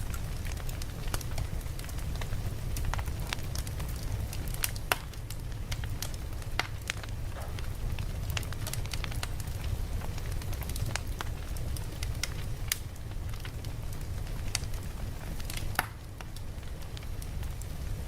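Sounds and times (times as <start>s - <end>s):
low fire rumble: 0.0s - 18.0s
wood crackling and popping: 0.0s - 18.0s.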